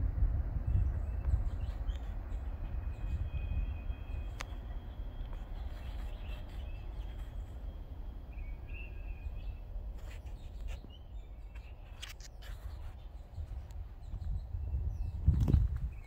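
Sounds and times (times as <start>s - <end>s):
songbird chirps: 0.6s - 16.0s.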